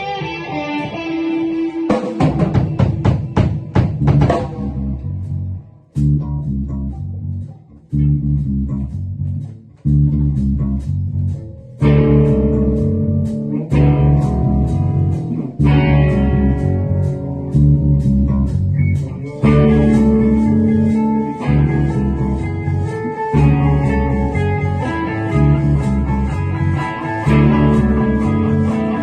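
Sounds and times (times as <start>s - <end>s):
guitar and bass chords: 0.0s - 29.0s.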